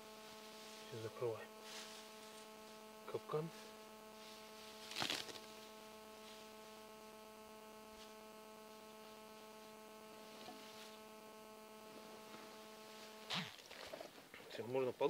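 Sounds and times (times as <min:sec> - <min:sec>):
grass rustling: 0:00.0 - 0:14.4
faint electronic hum: 0:00.0 - 0:15.0.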